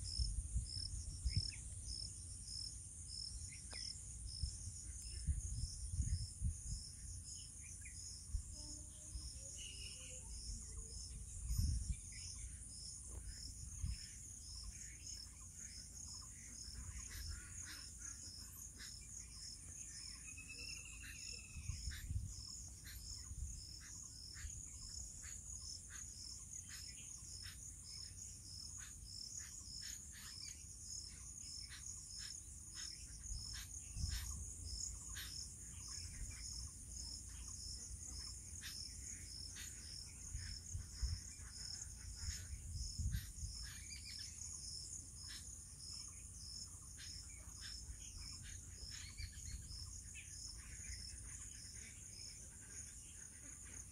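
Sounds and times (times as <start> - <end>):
insects humming and chirping: 0.0 - 53.9.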